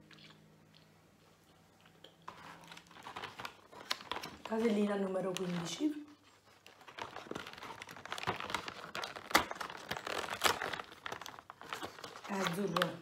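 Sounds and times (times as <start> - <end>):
foil crinkling and rustling: 2.3 - 13.0.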